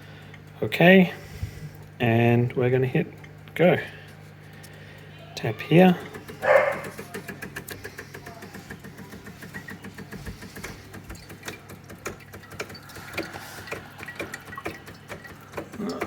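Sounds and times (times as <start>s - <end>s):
espresso pump humming and ticking: 0.0s - 16.0s.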